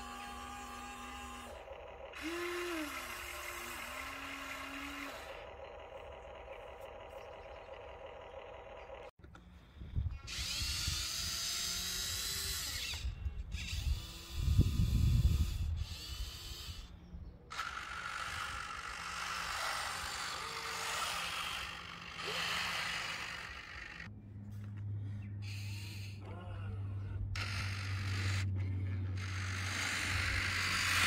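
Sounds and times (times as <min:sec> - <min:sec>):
electric motors whining: 0:00.0 - 0:09.5, 0:10.1 - 0:31.0.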